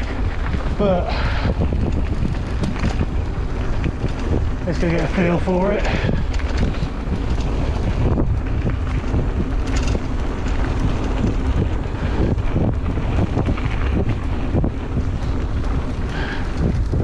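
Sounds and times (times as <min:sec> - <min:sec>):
bike rattling over bumps: 0:00.0 - 0:17.0
bike tyres rolling on dirt: 0:00.0 - 0:17.0
wind rushing over microphone: 0:00.0 - 0:17.0.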